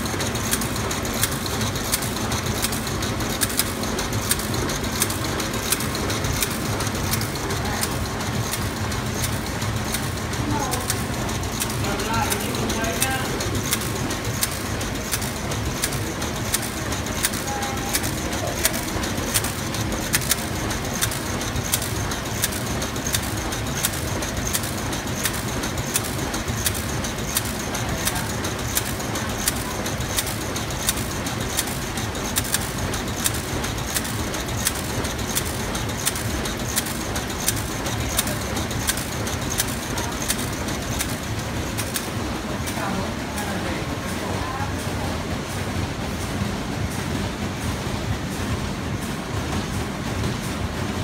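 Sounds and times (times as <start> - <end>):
printer running: 0.0 - 51.0.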